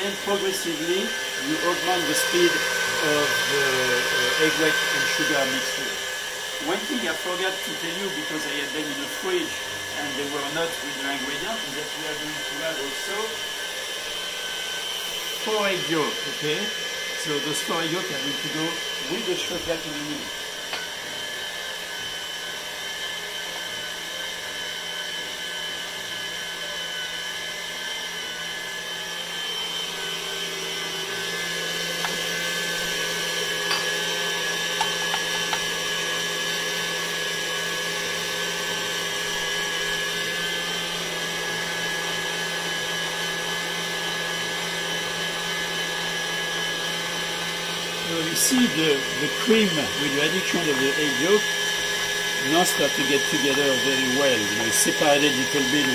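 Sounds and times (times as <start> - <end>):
stand mixer motor whining: 0.0 - 55.9.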